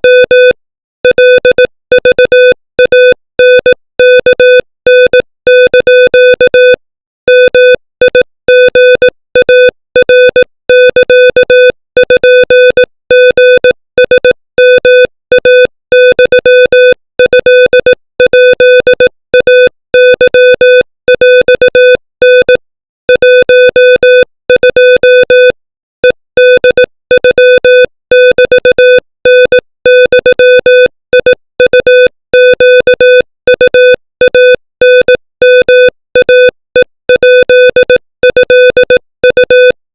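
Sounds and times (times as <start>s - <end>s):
morse code beeps: 0.0s - 39.8s.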